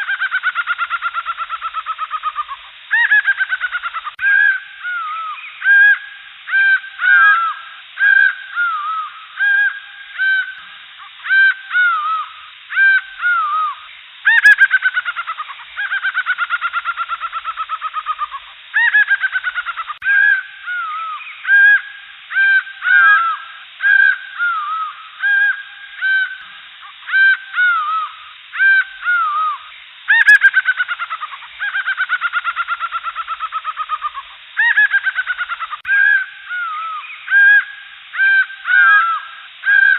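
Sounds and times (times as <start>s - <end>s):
jungle birds whistling: 0.0s - 39.9s.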